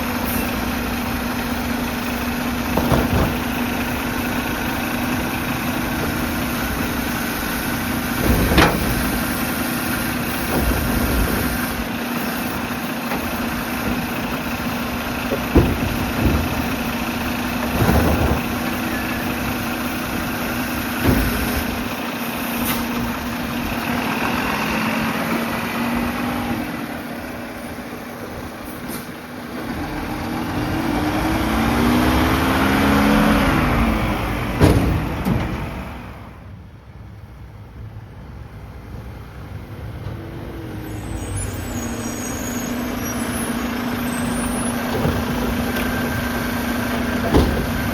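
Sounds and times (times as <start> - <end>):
diesel truck engine idling: 0.0 - 47.9.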